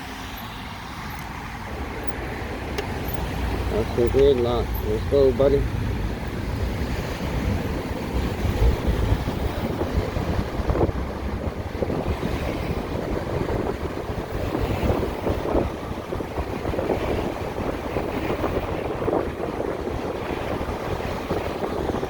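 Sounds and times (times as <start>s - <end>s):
road noise: 0.0s - 22.0s
wind buffeting microphone: 0.8s - 22.0s.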